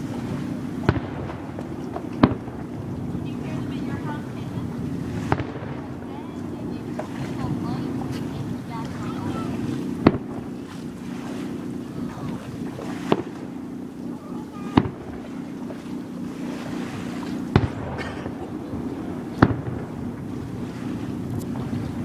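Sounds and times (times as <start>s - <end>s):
fireworks bangs: 0.0s - 11.8s, 12.6s - 13.8s, 14.5s - 21.0s
low rumble: 0.0s - 22.0s.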